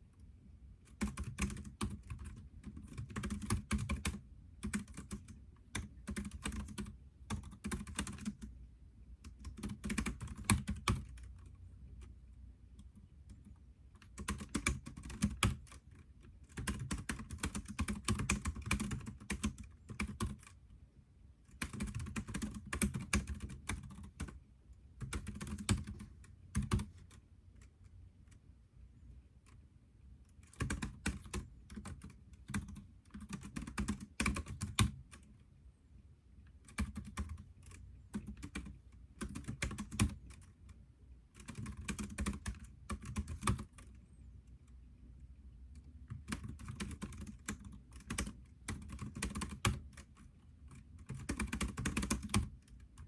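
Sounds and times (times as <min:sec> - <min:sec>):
typing on computer keyboard: 0:00.9 - 0:08.5, 0:09.2 - 0:12.1, 0:12.7 - 0:20.6, 0:21.5 - 0:24.4, 0:25.0 - 0:28.4, 0:30.3 - 0:35.3, 0:36.5 - 0:44.0, 0:45.7 - 0:53.0.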